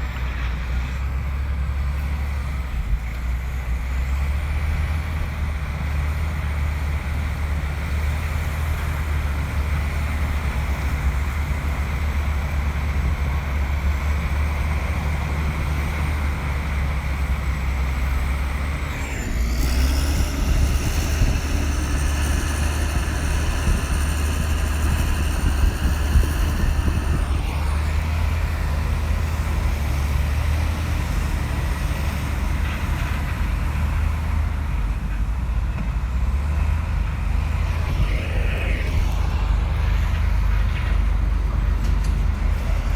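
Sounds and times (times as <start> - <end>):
bulldozer diesel engine droning: 0.0 - 42.9
faint high engine whine: 0.0 - 42.9.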